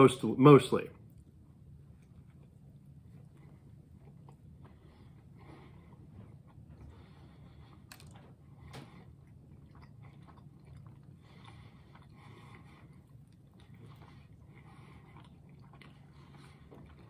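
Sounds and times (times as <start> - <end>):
low steady hum: 0.0 - 17.0
soft chewing: 1.0 - 17.0.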